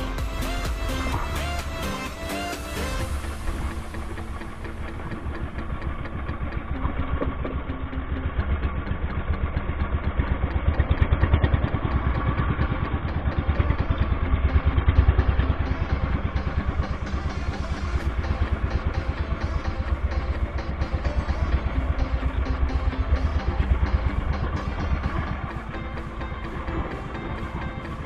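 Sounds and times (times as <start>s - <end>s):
boat motor chugging: 0.0s - 28.0s.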